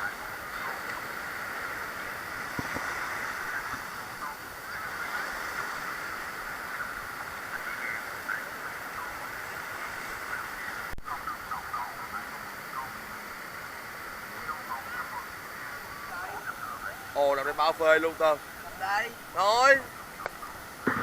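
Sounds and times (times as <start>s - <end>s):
beach surf: 0.0s - 21.0s
distant people calling and shouting: 0.0s - 21.0s.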